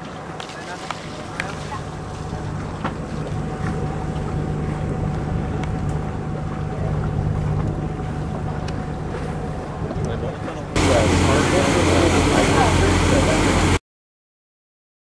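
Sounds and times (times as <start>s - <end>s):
boat engine drone: 0.0s - 13.8s
faint steady whine: 0.0s - 13.8s.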